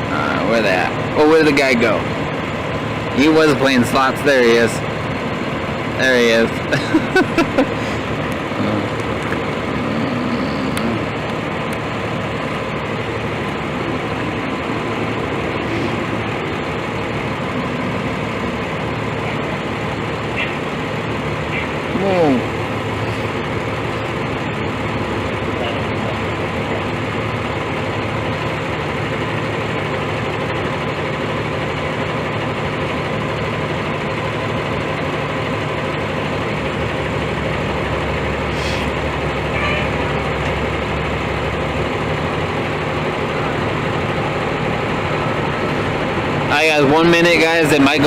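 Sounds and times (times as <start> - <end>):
vehicle engine idling: 0.0 - 48.0.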